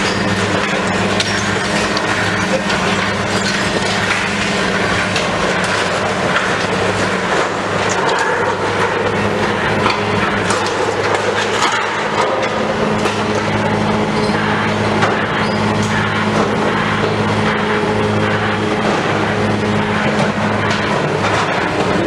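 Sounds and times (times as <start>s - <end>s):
debris clattering and crunching: 0.0s - 22.0s
heavy machine engine humming: 0.0s - 22.0s.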